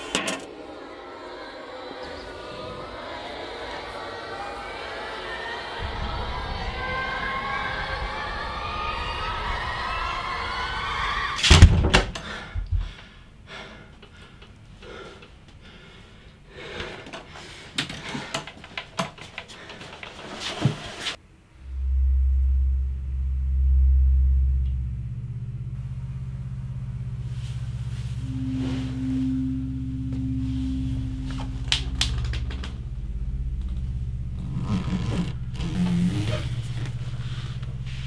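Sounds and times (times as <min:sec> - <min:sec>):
low droning film score: 0:00.0 - 0:17.6, 0:21.4 - 0:38.0.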